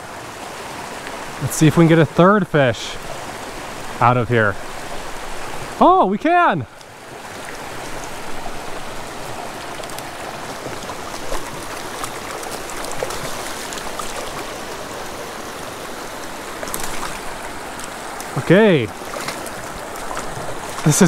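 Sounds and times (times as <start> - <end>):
creek running over stones: 0.0 - 21.0.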